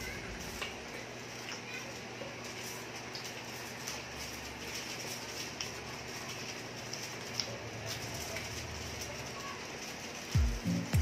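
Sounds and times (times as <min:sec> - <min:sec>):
aluminium foil crinkling: 0:00.0 - 0:10.9.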